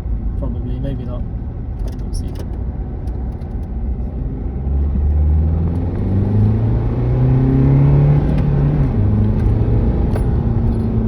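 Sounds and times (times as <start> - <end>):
car engine accelerating: 1.7 - 11.0.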